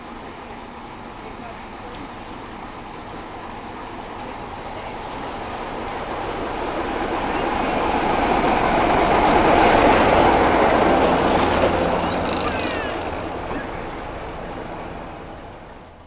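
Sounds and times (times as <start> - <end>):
train wheels on rails: 0.0 - 15.2
diesel locomotive passing: 0.0 - 16.0.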